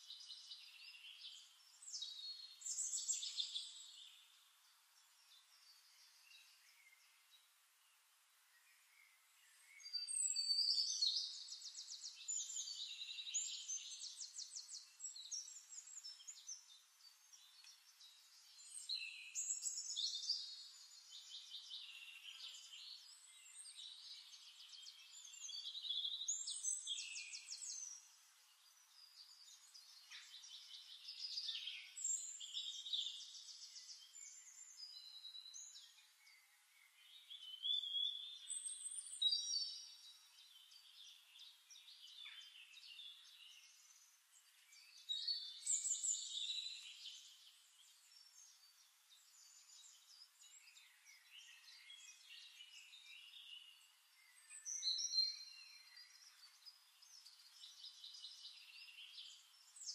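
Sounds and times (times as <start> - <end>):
songbirds trilling and chirping: 0.0 - 59.9.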